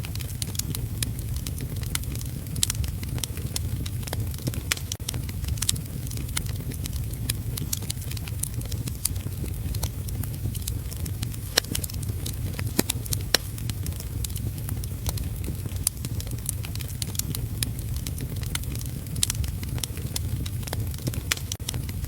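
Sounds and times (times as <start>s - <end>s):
low rumble: 0.0s - 22.0s
wood fire crackling: 0.0s - 22.0s.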